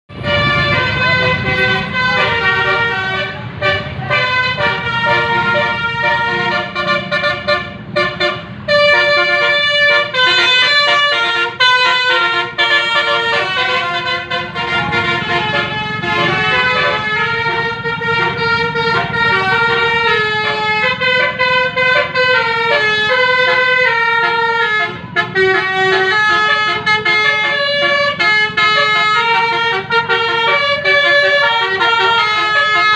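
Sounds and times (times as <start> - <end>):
multi-tone bus air horn melody: 0.1 - 32.9.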